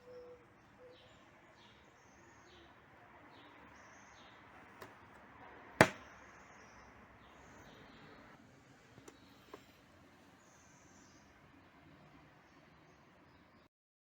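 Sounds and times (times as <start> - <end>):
bird chirping: 0.0 - 5.2, 5.8 - 8.4, 9.0 - 13.7.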